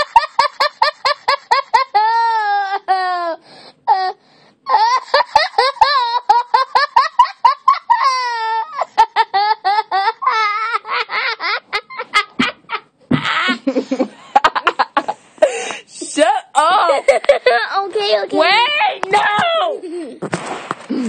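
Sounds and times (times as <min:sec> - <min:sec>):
boy laughing hysterically: 0:00.0 - 0:04.1, 0:04.7 - 0:15.8, 0:16.8 - 0:20.3.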